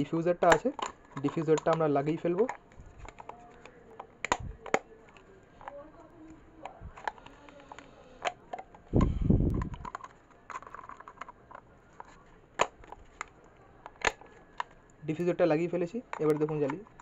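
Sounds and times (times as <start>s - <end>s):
plastic clicks and taps: 0.4s - 5.8s, 6.6s - 14.8s, 15.9s - 17.0s.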